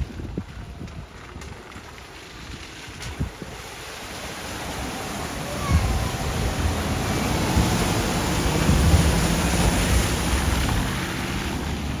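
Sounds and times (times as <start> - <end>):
rushing splashing water: 0.0 - 12.0.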